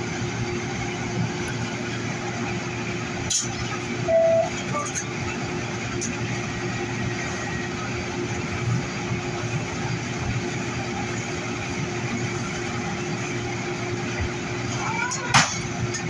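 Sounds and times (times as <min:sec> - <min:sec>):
train equipment hum: 0:00.0 - 0:16.0.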